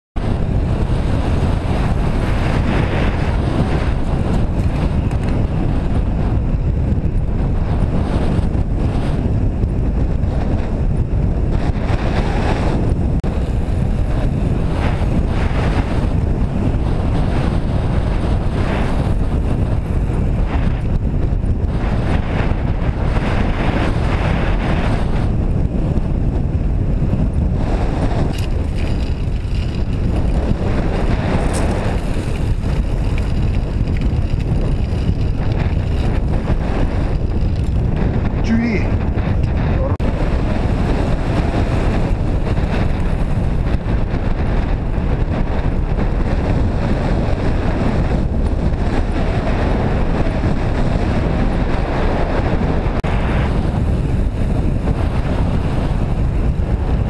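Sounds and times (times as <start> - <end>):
wind buffeting microphone: 0.2 - 57.0.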